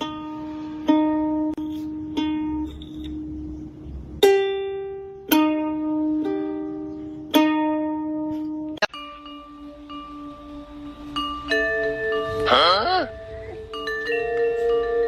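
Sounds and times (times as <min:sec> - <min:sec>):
slow plucked-string notes: 0:00.0 - 0:15.0.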